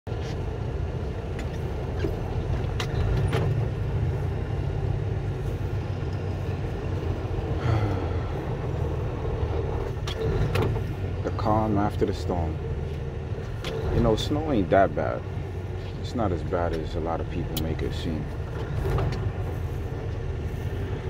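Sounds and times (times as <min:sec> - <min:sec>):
truck engine and tires rumbling: 0:00.1 - 0:21.0.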